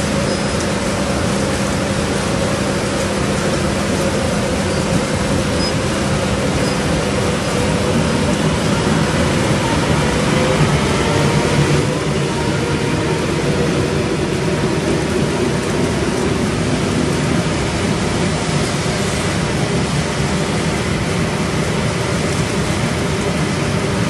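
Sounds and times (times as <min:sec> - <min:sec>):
electric train rolling past: 0:00.0 - 0:24.0.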